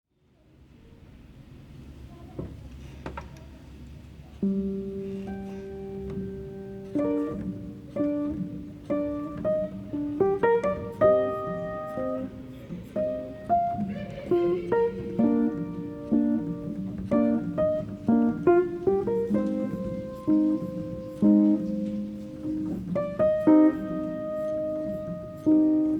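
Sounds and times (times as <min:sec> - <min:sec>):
piano: 0:03.7 - 0:25.9.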